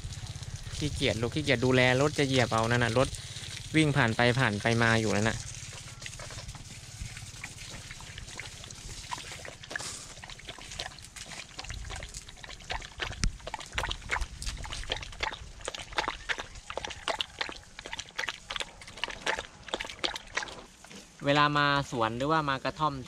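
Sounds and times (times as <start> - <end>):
dog lapping water: 0.0 - 21.2.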